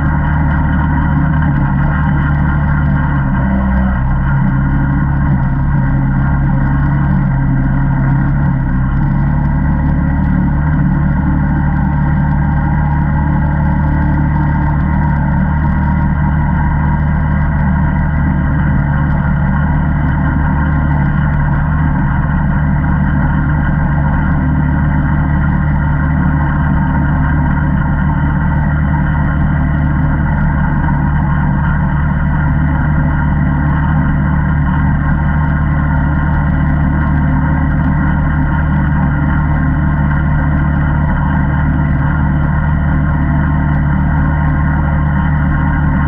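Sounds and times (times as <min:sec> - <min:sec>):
atv engine running: 0:00.0 - 0:46.0.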